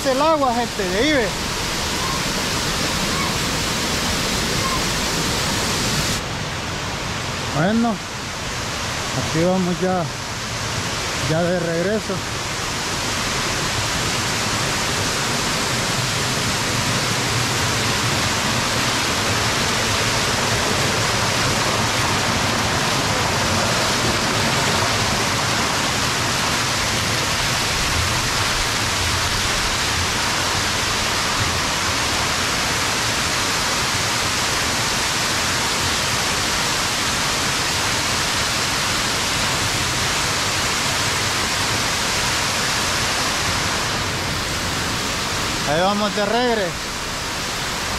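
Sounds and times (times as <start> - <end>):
waterfall rushing over rocks: 0.0 - 47.9.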